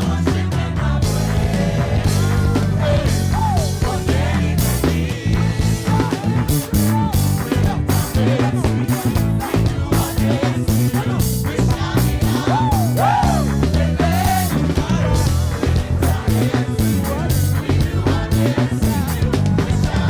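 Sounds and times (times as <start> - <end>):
gospel band playing upbeat groove: 0.0 - 20.0
sliding guitar phrases: 0.0 - 20.0.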